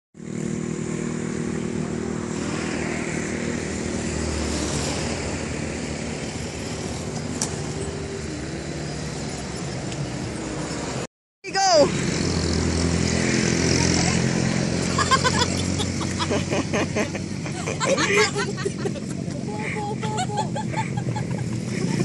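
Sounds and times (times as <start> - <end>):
vehicle engine running: 0.2 - 11.1, 11.7 - 22.0.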